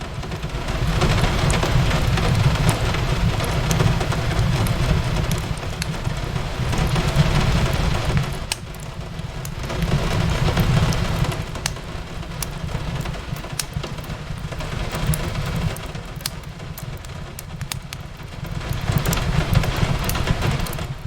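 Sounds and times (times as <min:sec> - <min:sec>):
rain on a window: 0:00.0 - 0:21.0
fireplace crackling and popping: 0:00.1 - 0:21.0.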